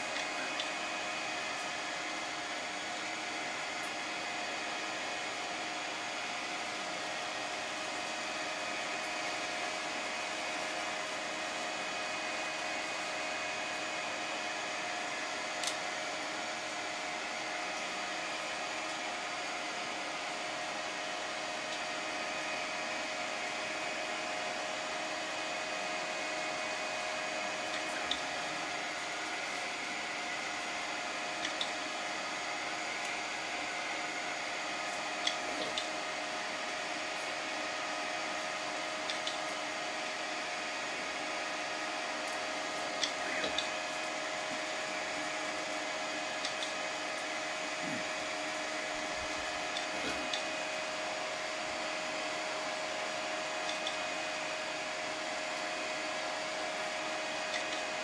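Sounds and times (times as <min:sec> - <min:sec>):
printer fans and motors whirring: 0:00.0 - 0:58.0.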